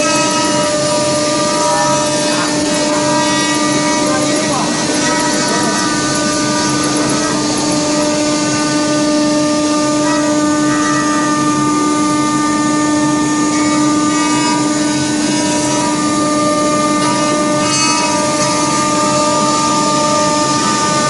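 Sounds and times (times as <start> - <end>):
router spindles whining: 0.0 - 21.0.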